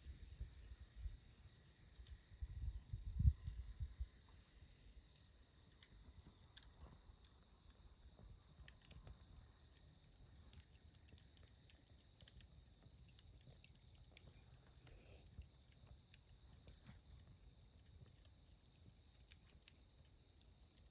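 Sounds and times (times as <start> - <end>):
campfire crackles and pops: 0.0 - 20.9
high-pitched insect chorus: 0.0 - 20.9.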